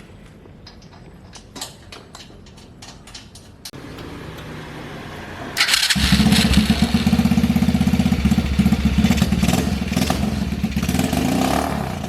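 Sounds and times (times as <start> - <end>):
motorcycle engine starting and idling: 0.6 - 12.0.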